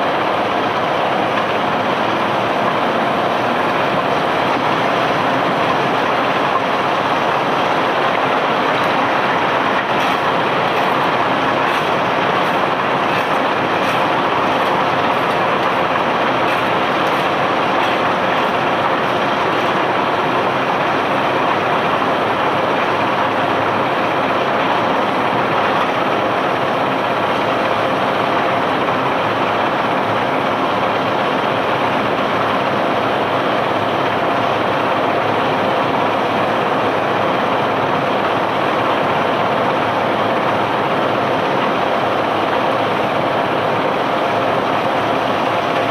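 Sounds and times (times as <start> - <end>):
machinery rumbling and rattling: 0.0 - 45.9.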